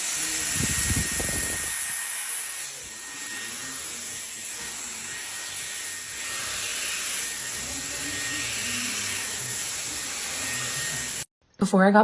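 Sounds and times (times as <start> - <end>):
hair dryer running: 0.0 - 11.3.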